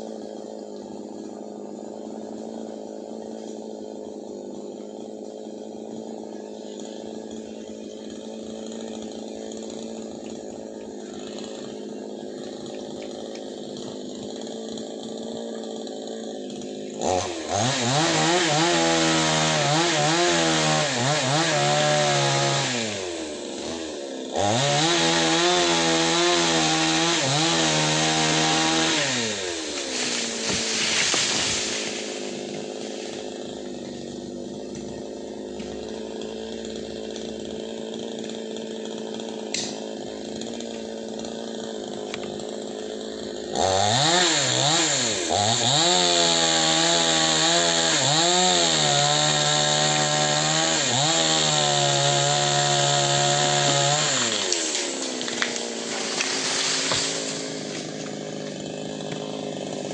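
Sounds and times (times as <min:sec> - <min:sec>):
chainsaw cutting branches: 0:00.0 - 0:59.9.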